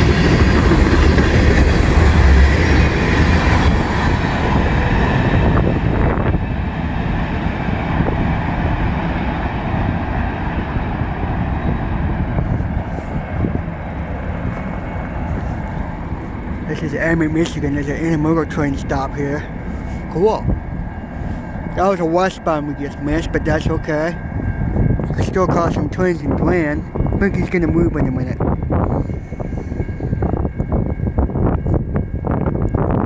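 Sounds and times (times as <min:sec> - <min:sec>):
freight train rumbling past: 0:00.0 - 0:33.0.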